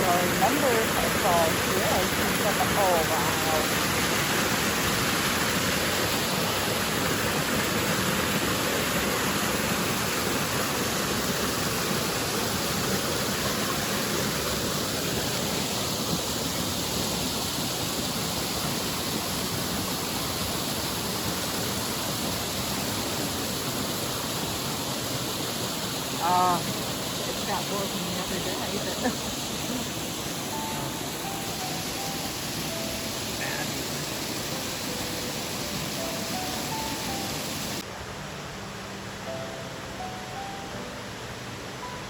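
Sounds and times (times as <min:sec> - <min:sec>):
waterfall rushing over rock: 0:00.0 - 0:42.0.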